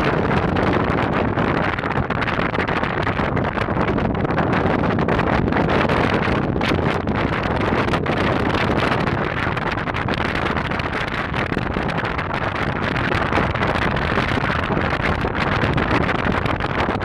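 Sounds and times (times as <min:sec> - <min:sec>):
boat moving through water: 0:00.0 - 0:17.0
wind on microphone: 0:00.0 - 0:17.0.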